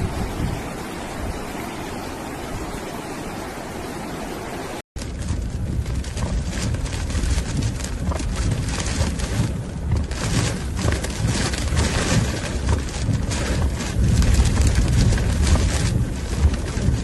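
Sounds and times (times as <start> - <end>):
stormy wind gusting on microphone: 0.0 - 17.0.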